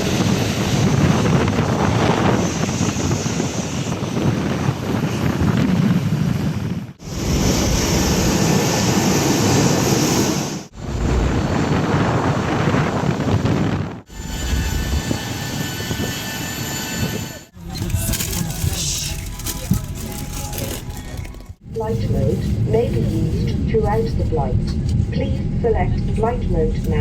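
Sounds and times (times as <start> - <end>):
jet aircraft rumble: 0.0 - 27.0.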